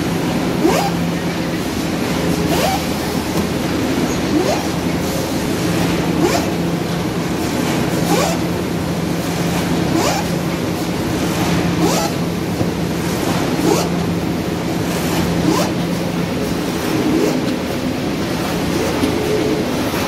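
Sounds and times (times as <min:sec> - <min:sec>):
machine clatter: 0:00.0 - 0:20.0
machine humming: 0:00.0 - 0:20.0.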